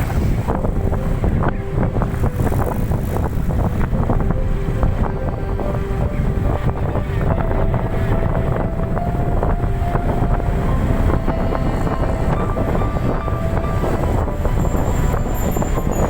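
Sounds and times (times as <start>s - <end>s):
vehicle running: 0.0s - 16.0s
wind on microphone: 0.0s - 16.0s.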